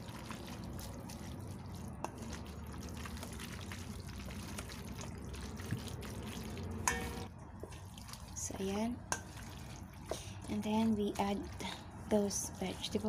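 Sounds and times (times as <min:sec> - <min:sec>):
wooden spoon stirring noodles: 0:00.0 - 0:13.0.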